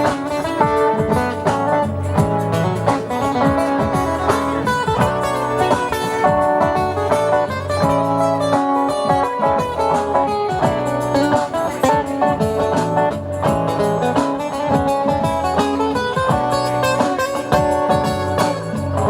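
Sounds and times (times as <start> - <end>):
acoustic guitar instrumental: 0.0 - 19.0.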